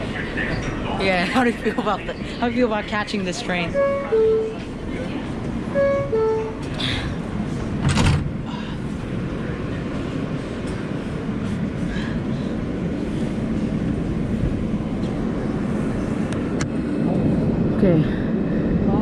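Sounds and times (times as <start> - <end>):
subway wheels rumbling on rail: 0.0 - 19.0.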